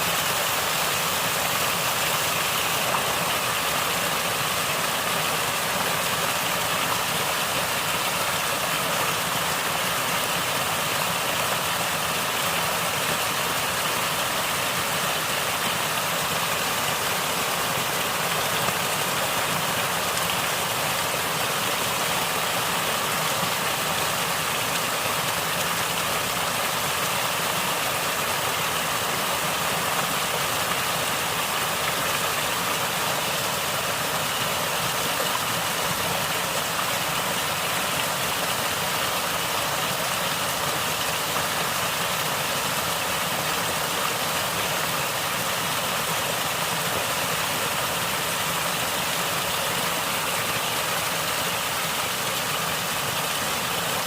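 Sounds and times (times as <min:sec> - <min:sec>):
running water gurgling: 0:00.0 - 0:54.0.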